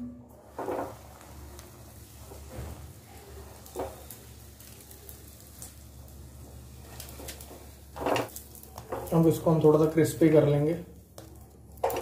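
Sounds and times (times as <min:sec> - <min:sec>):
faint sizzling in a frying pan: 0:00.0 - 0:12.0.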